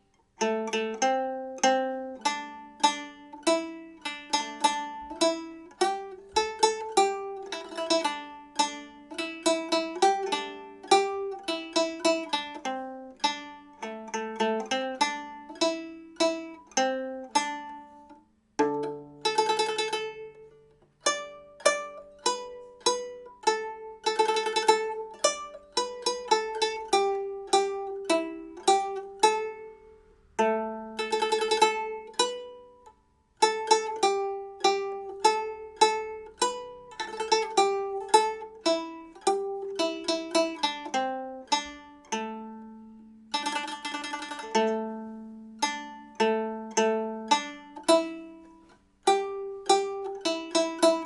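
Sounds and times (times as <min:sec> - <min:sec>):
pipa plucked melody with tremolo: 0:00.0 - 0:51.0.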